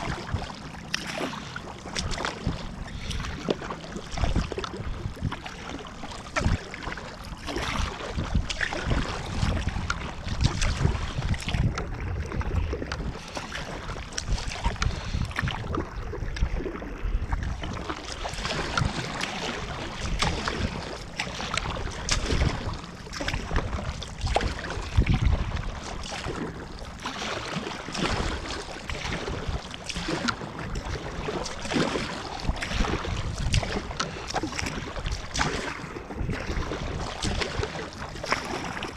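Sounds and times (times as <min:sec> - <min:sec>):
water splashing around kayak: 0:00.0 - 0:38.9
wind buffeting microphone: 0:00.0 - 0:38.9.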